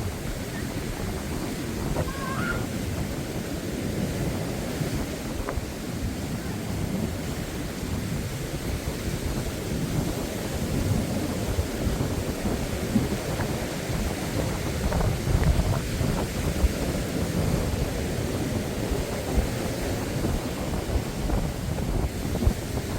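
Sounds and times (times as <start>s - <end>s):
sea surf: 0.0s - 22.9s
wind buffeting microphone: 0.0s - 22.9s.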